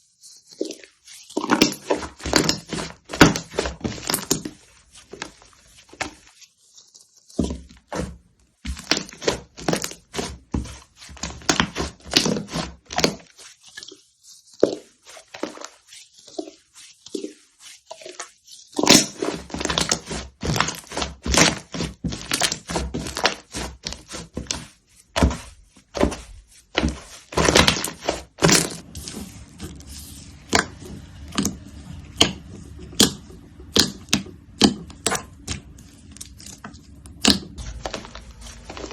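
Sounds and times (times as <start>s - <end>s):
slime squishing with crackles and pops: 0.4s - 38.9s.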